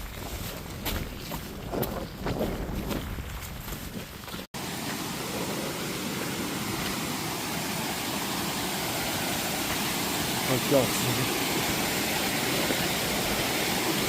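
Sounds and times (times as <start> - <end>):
running water rushing: 2.7 - 14.0.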